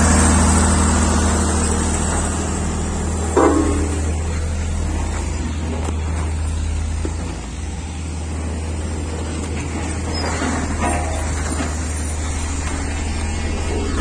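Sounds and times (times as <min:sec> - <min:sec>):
diesel machinery engine hum: 0:00.0 - 0:14.0.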